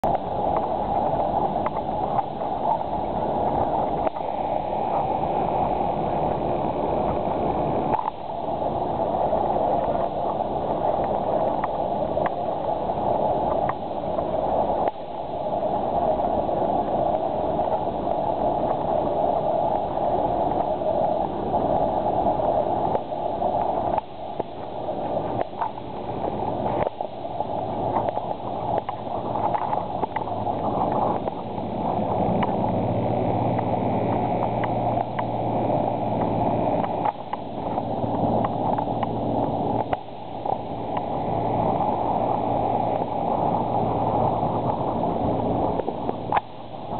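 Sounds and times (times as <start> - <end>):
motorboat engine at speed: 0.0 - 46.9
water splashing against hull: 0.0 - 46.9.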